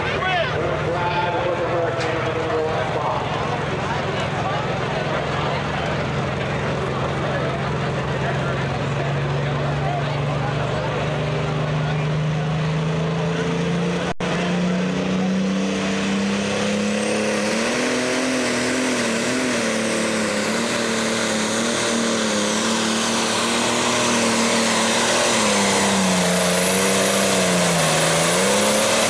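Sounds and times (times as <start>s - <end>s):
diesel tractor engine under load: 0.0s - 29.0s
high turbo whine: 0.0s - 29.0s.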